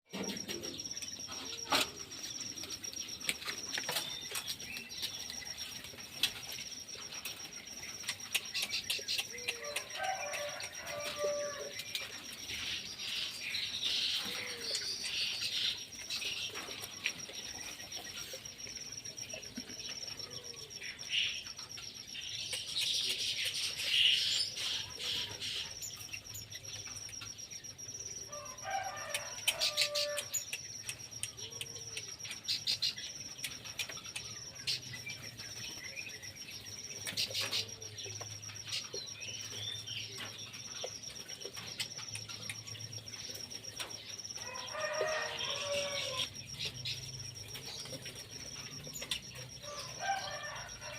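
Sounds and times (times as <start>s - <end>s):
birds chirping and calling: 0.1s - 50.9s
steady high-pitched whine: 0.1s - 50.9s.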